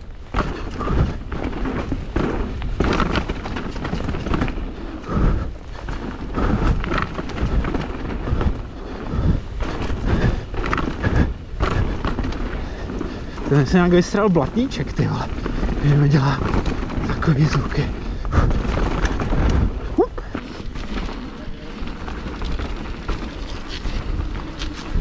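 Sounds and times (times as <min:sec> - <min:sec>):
bike clattering and rattling: 0:00.0 - 0:25.0
bike tyres over ground: 0:00.0 - 0:25.0
wind buffeting microphone: 0:00.0 - 0:25.0.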